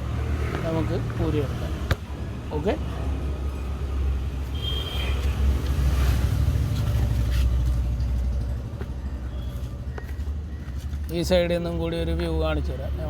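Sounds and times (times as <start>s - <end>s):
vehicle rumble passing by: 0.0s - 13.0s.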